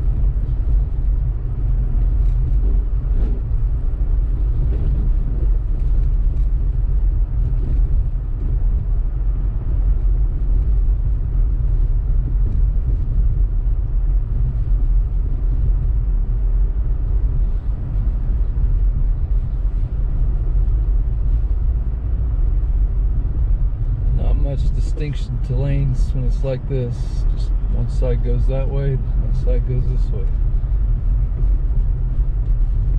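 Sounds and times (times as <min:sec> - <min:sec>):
car driving on snow: 0:00.0 - 0:32.9.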